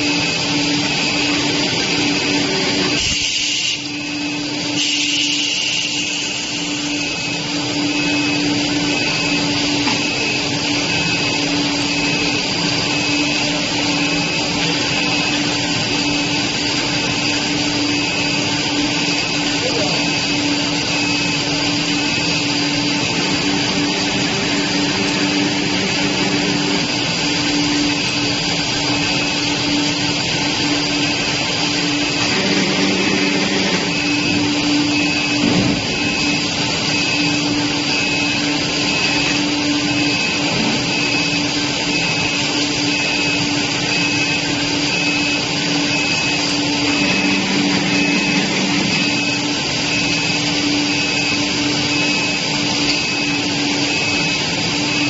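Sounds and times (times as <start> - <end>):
machine high whine: 0.0 - 55.0
machine low hum: 3.8 - 55.0.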